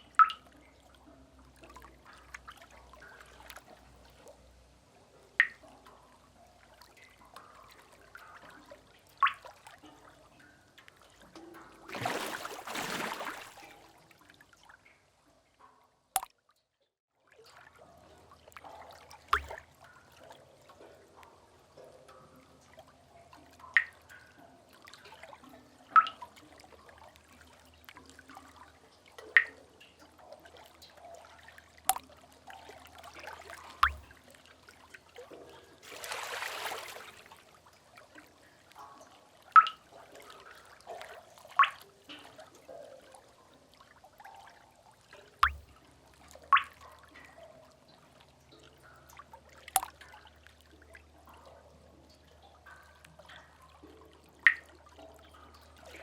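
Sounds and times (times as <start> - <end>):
water drops plinking into pool: 0.0 - 4.4, 5.2 - 15.0, 15.6 - 16.7, 17.6 - 37.3, 38.0 - 56.0.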